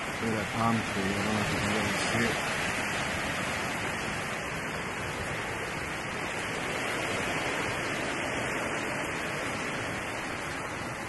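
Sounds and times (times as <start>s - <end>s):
heavy rain: 0.0s - 11.0s
wind: 0.0s - 11.0s.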